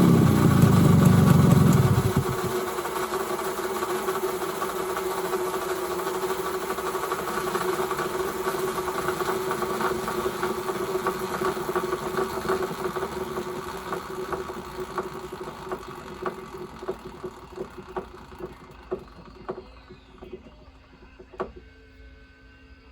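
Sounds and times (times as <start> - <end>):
regular mechanical clicking: 0.0 - 20.5
motorcycle transmission whine: 0.0 - 22.9.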